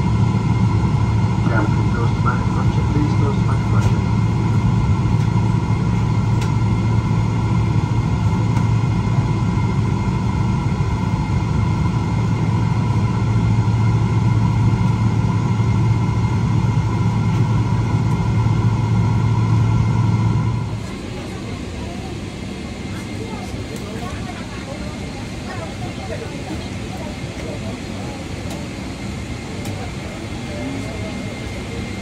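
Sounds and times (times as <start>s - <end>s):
aircraft cabin low rumble: 0.0s - 32.0s.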